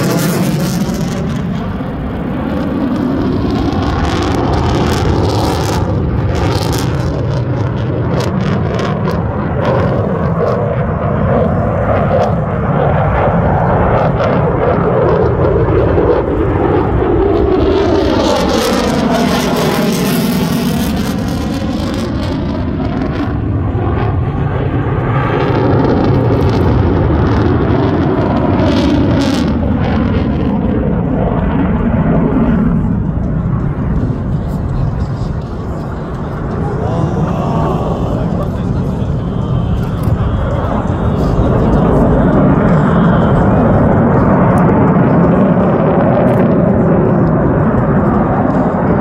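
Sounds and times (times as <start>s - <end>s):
fighter jet roaring overhead: 0.0s - 49.0s.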